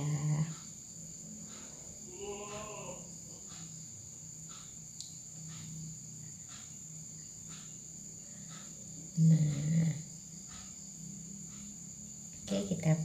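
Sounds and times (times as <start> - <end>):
crickets trilling: 0.0 - 13.0
soft insect chirp: 0.0 - 13.0.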